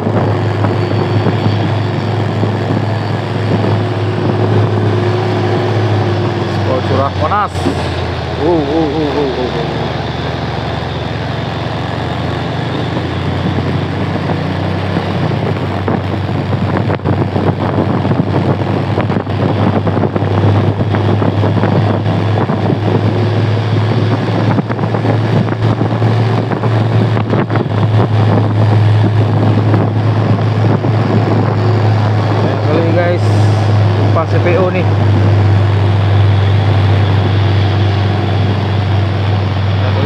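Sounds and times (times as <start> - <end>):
road noise rushing: 0.0 - 40.0
vehicle engine drone: 0.0 - 40.0.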